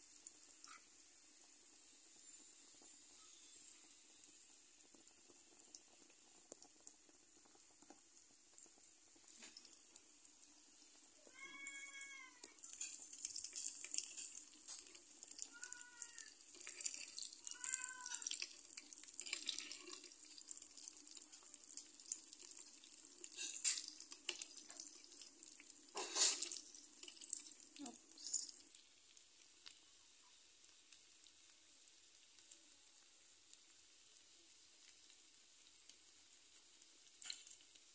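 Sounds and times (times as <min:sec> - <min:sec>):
fritters sizzling in hot oil: 0:00.0 - 0:37.9.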